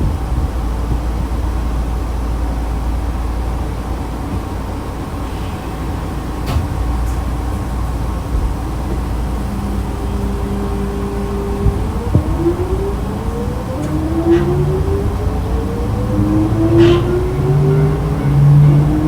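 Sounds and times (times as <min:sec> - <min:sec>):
train cabin low rumble: 0:00.0 - 0:19.0.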